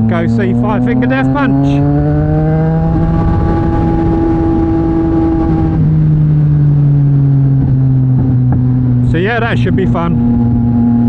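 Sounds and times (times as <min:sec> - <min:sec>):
motorcycle engine while riding: 0:00.0 - 0:11.0
wind noise on microphone: 0:00.0 - 0:11.0.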